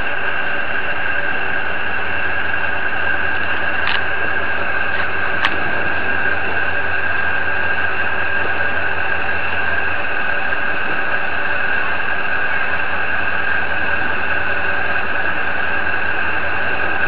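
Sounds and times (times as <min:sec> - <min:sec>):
heavy machinery droning: 0:00.0 - 0:17.0.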